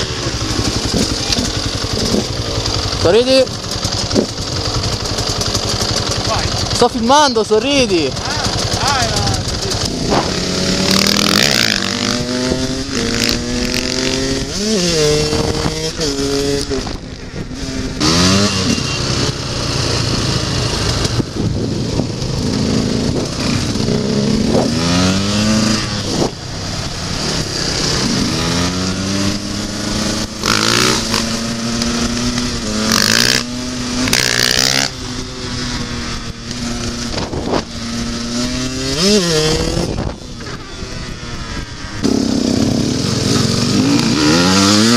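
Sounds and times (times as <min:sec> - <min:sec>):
motorcycle engines accelerating: 0:00.0 - 0:44.9.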